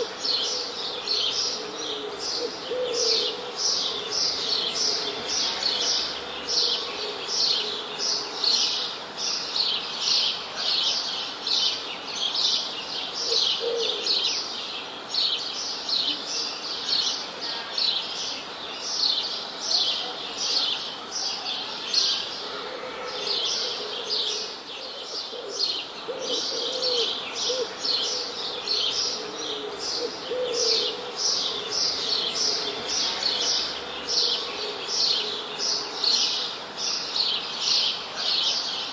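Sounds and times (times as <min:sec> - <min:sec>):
small songbirds chirping: 0:00.0 - 0:22.6, 0:23.2 - 0:38.9.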